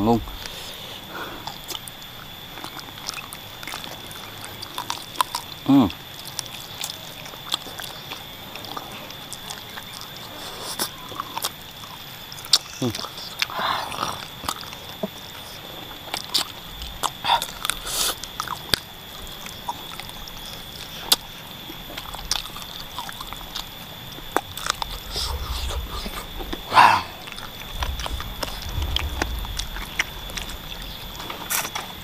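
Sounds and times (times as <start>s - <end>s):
steady high tone hum: 0.0s - 32.0s
wet chewing and lip smacks: 0.3s - 32.0s.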